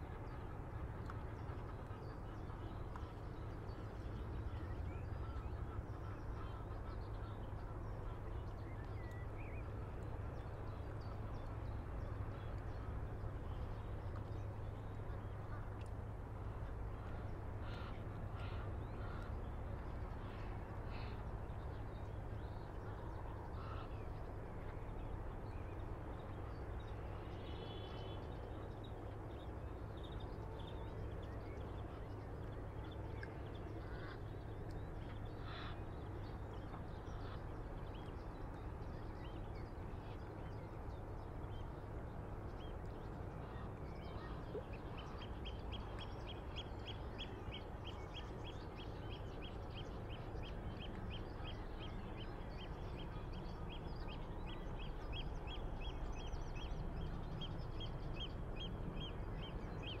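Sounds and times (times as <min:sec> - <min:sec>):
water bird calling: 0:00.0 - 0:10.0, 0:14.7 - 0:24.8, 0:30.0 - 1:00.0
light breeze: 0:00.0 - 1:00.0.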